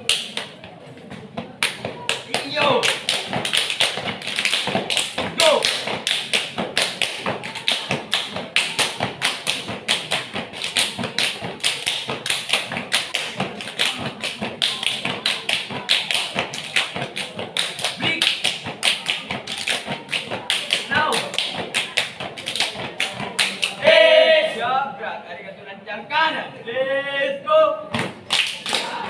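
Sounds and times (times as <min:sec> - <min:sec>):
people clapping in unison: 0:00.0 - 0:00.6, 0:01.5 - 0:24.0, 0:28.0 - 0:29.0.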